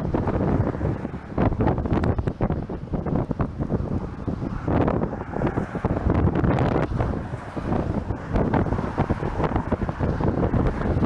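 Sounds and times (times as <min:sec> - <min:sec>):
strong gusty wind on microphone: 0:00.0 - 0:11.0.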